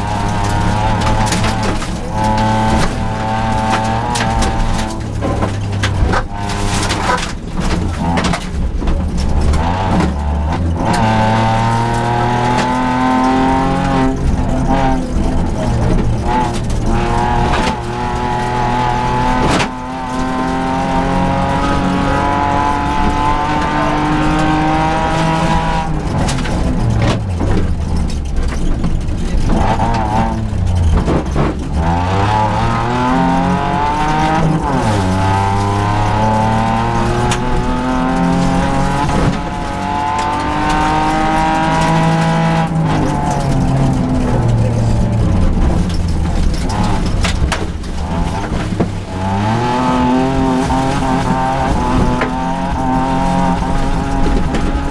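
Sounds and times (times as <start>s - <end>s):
rally car engine revving: 0.0s - 54.9s.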